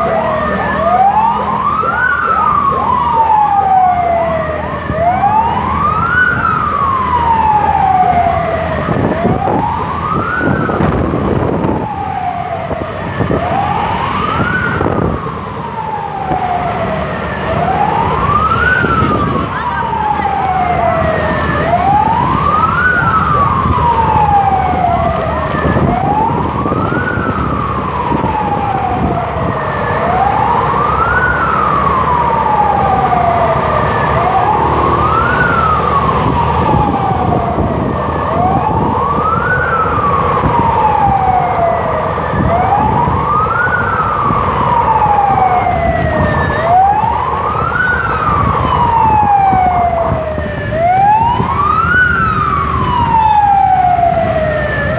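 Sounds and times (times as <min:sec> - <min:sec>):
ambulance siren wailing: 0:00.0 - 0:54.9
wind noise: 0:02.8 - 0:54.9.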